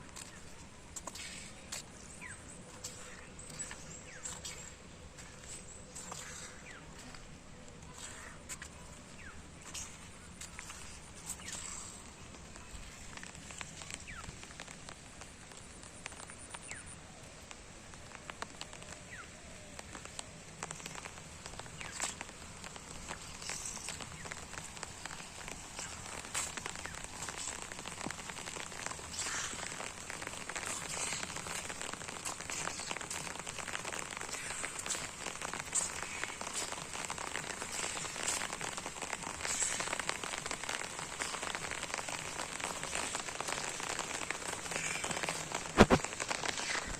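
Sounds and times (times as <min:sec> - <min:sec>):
rain drops hitting: 0:00.0 - 0:46.9.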